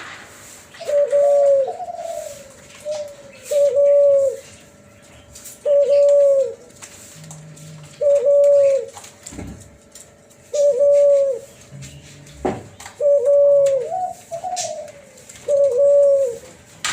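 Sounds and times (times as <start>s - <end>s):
dove cooing: 0.7s - 9.1s, 10.3s - 12.1s, 12.7s - 16.9s.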